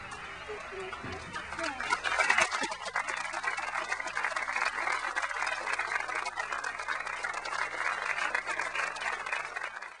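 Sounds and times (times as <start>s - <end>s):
crowd murmur: 0.0s - 9.6s.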